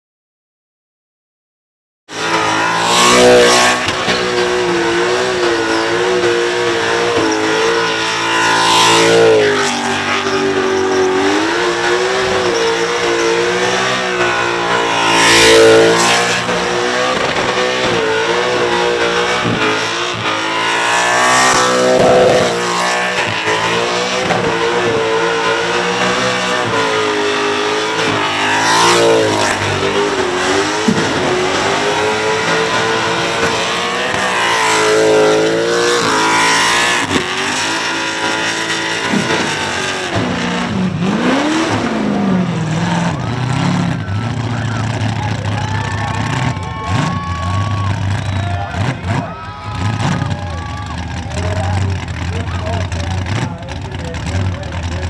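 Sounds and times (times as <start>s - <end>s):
car engine revving high: 2.1s - 55.0s.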